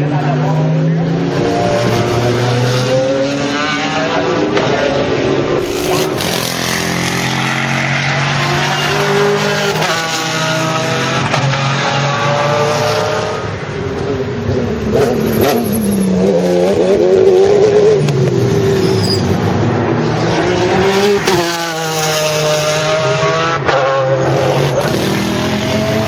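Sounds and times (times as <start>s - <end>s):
racing car engine revving: 0.0s - 26.0s.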